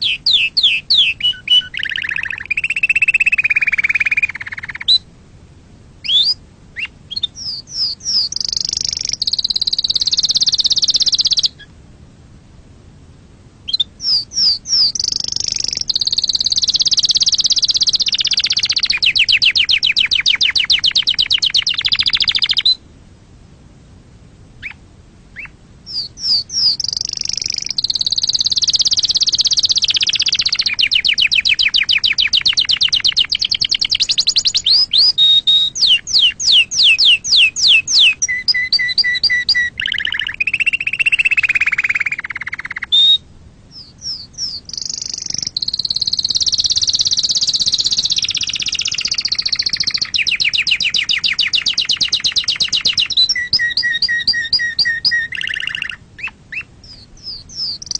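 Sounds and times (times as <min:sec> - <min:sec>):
canary singing trills: 0:00.0 - 0:05.1, 0:06.0 - 0:11.8, 0:13.6 - 0:22.8, 0:24.6 - 0:57.9.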